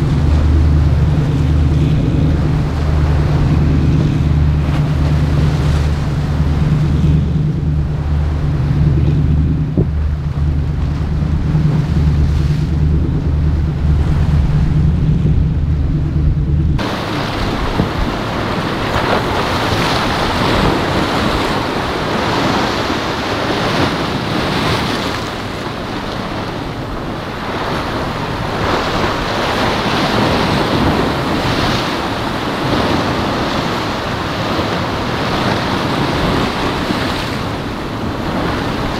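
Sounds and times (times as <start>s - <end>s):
boat engine drone: 0.0s - 38.9s
waves and surf: 0.0s - 38.9s
wind buffeting microphone: 0.0s - 38.9s.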